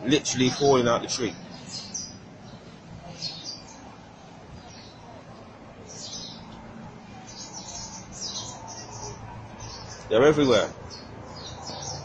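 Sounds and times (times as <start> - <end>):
birds chirping: 0.0 - 12.0
low background hum: 0.0 - 12.0.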